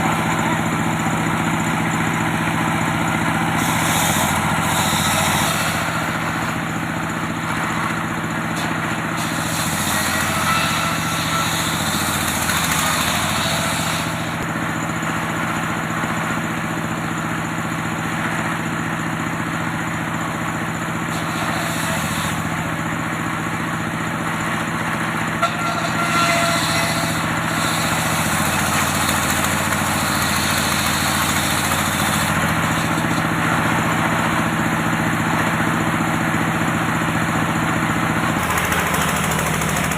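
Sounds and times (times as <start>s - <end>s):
engine humming: 0.0s - 39.9s.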